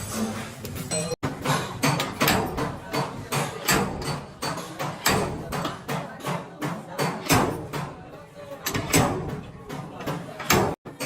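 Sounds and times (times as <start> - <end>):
hammer striking sheet metal: 0.0 - 11.0.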